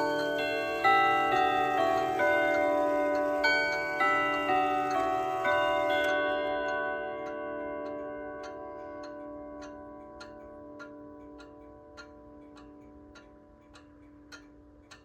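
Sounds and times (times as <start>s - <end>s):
clock chime rods ringing: 0.0s - 15.0s
clock ticking: 0.0s - 15.0s.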